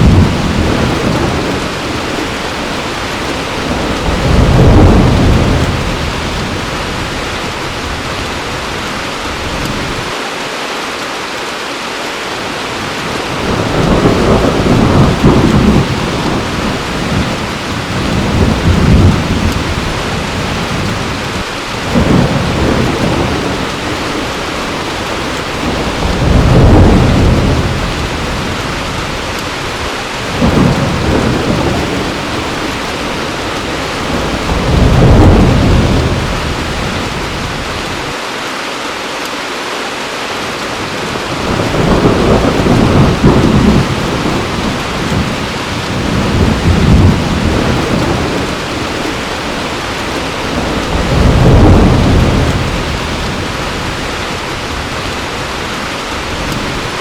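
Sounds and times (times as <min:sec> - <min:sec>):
thunder rumbling: 0:00.0 - 0:10.2, 0:12.7 - 0:38.2, 0:40.8 - 0:57.0
heavy rain: 0:00.0 - 0:57.0.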